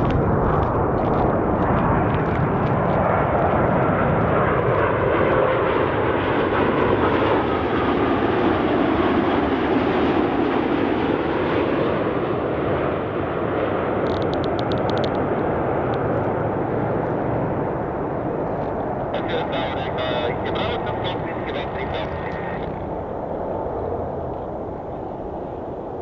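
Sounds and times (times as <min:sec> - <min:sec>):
jet airliner passing low: 0:00.0 - 0:26.0.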